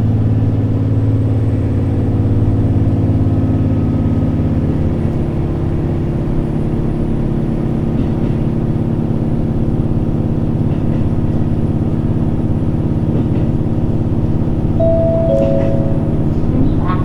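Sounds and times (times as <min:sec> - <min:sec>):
diesel railcar engine drone: 0:00.0 - 0:17.0.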